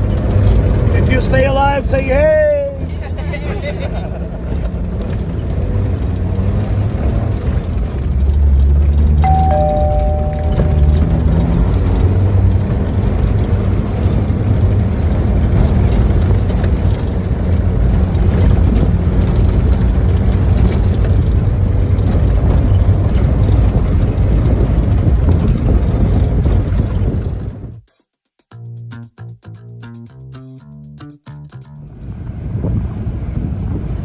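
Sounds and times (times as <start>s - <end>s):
vehicle engine and road rumble: 0.0s - 27.8s, 30.1s - 34.0s.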